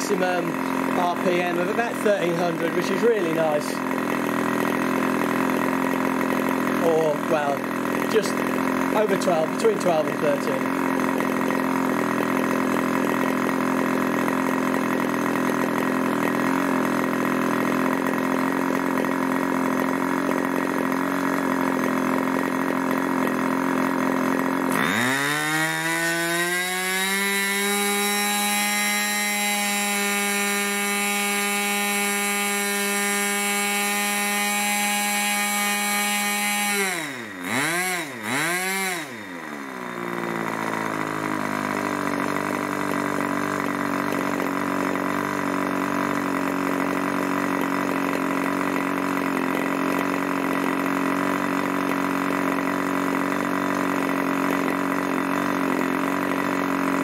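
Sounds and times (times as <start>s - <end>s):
model engine spinning propeller: 0.0s - 57.0s.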